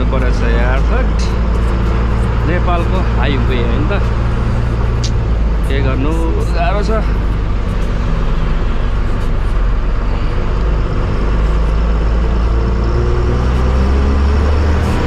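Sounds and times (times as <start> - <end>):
bus engine rumbling: 0.0 - 15.0
road noise: 0.0 - 15.0.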